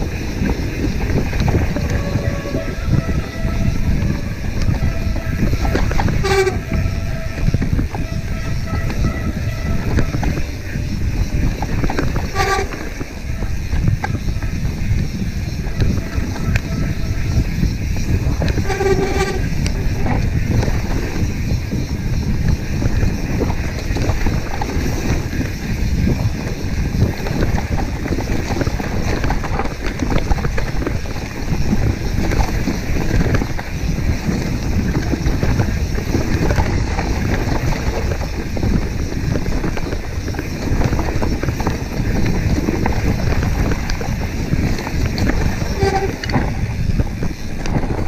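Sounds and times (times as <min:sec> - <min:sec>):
bike rattling over bumps: 0:00.0 - 0:48.0
wind rush on microphone: 0:00.0 - 0:48.0.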